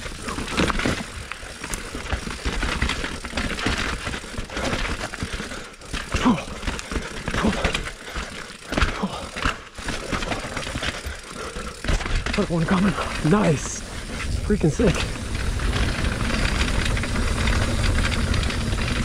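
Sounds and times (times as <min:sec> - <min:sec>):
mountain bike rattling and clattering: 0:00.0 - 0:19.0
tyre noise: 0:00.0 - 0:19.0.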